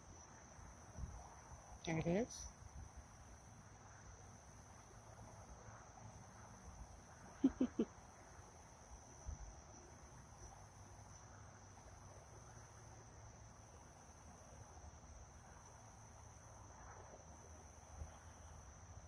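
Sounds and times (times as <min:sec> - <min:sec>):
night insects trilling: 0:00.0 - 0:19.0.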